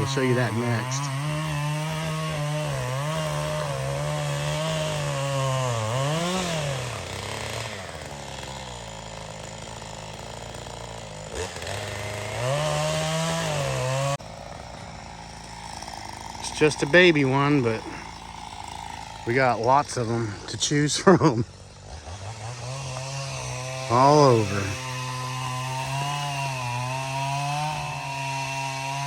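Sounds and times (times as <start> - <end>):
chainsaw running: 0.0 - 29.0.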